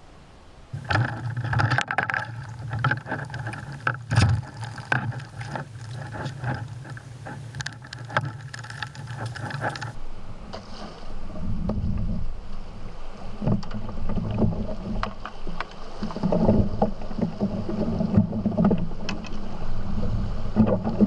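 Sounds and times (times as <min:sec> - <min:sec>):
water noise: 0:00.0 - 0:21.0.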